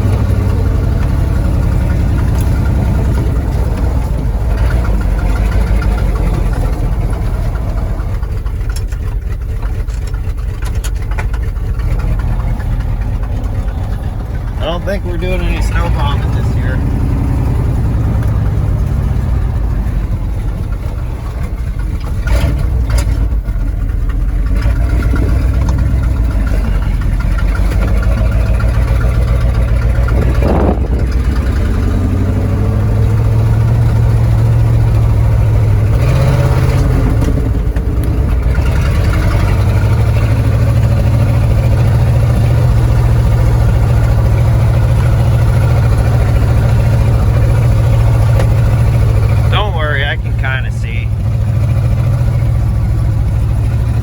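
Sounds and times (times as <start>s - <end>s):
pickup truck engine revving: 0.0s - 54.0s.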